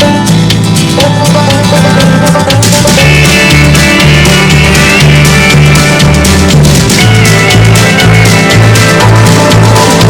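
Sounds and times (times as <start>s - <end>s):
instrumental music with drums and guitar: 0.0s - 10.0s.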